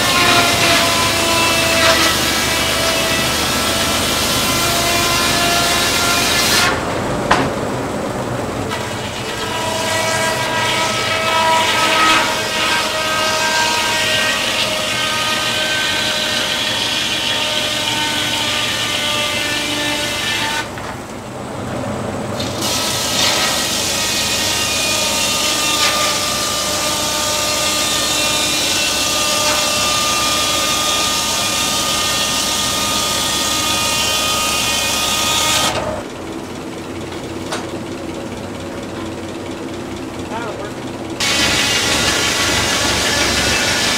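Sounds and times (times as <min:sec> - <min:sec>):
circular saw cutting log: 0:00.0 - 0:07.5, 0:08.5 - 0:21.1, 0:22.4 - 0:43.9.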